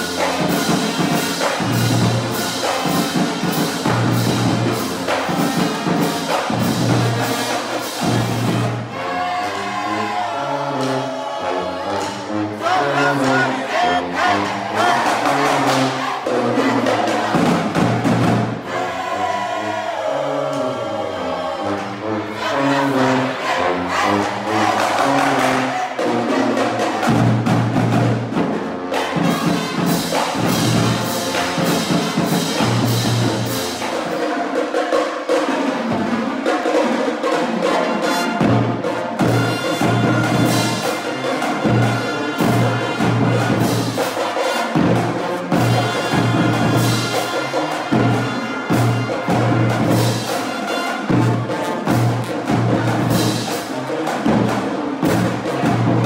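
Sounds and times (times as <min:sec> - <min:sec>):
drums keeping a beat: 0:00.0 - 0:08.9, 0:12.0 - 0:19.6, 0:23.9 - 0:56.0
brass playing: 0:00.0 - 0:35.4, 0:37.2 - 0:56.0.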